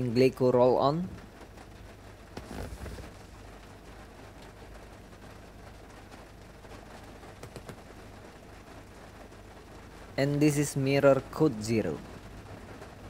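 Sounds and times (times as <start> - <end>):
faint rain: 0.0 - 13.0.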